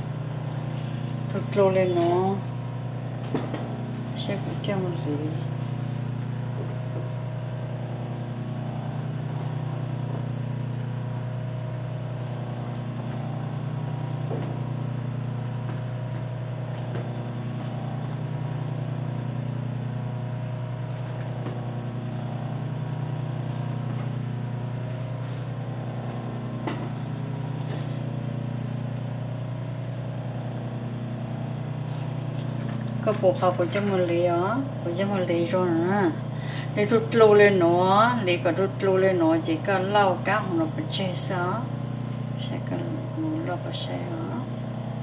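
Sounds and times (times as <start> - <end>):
sewing machine motor humming: 0.0 - 39.0.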